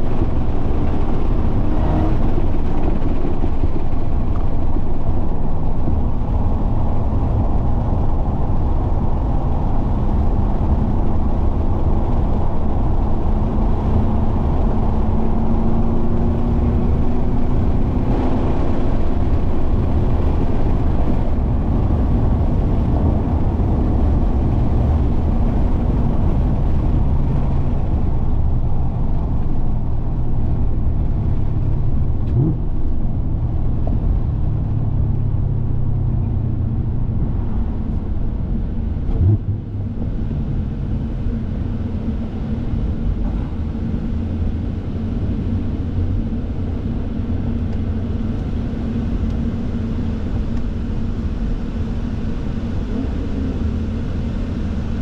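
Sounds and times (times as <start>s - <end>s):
car engine at speed: 0.0s - 55.0s
road rumble: 0.0s - 55.0s
wind noise: 0.0s - 55.0s.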